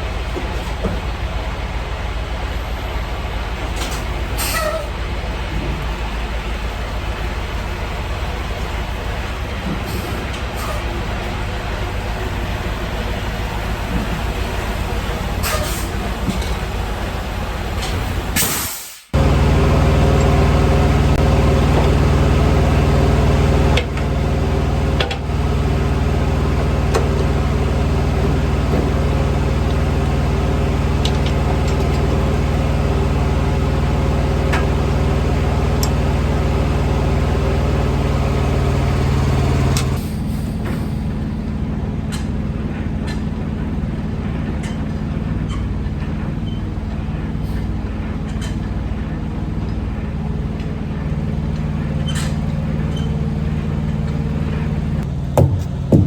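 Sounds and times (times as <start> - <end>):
heavy truck engine droning: 0.0 - 56.0.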